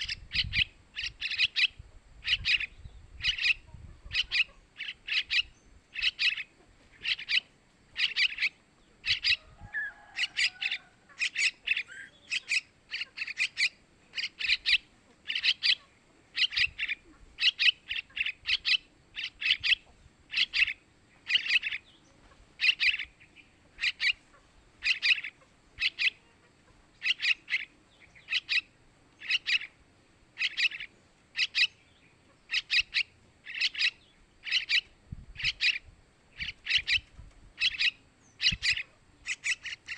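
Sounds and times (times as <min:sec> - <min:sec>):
bulbul chicks chirping: 0:00.0 - 0:39.9.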